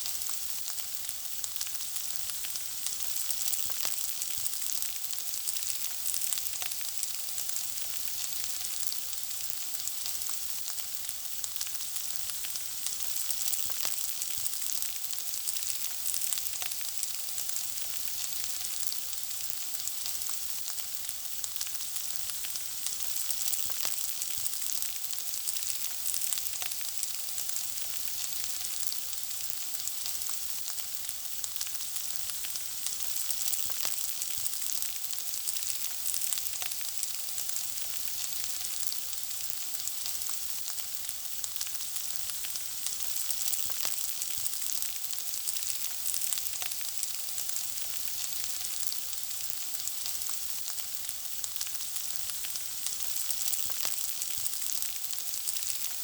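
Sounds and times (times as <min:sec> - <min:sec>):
food sizzling in hot oil: 0:00.0 - 0:56.0
oil crackling and popping: 0:00.0 - 0:56.0.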